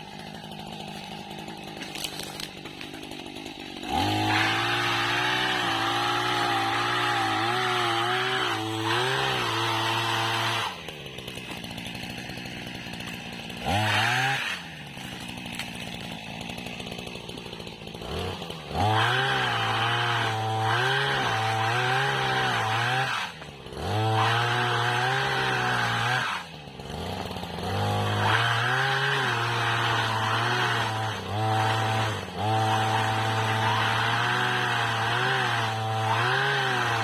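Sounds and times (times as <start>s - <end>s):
small petrol engine revving: 0.0s - 37.0s.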